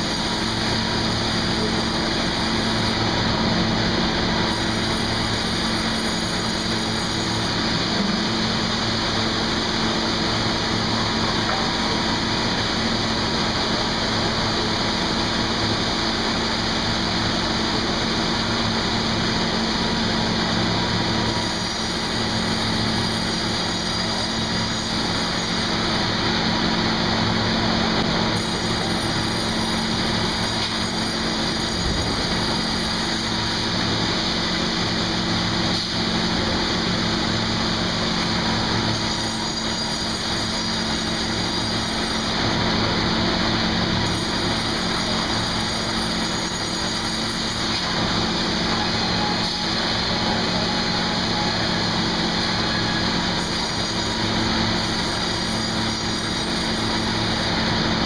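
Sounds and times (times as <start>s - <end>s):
sawmill machinery hum: 0.0s - 58.0s.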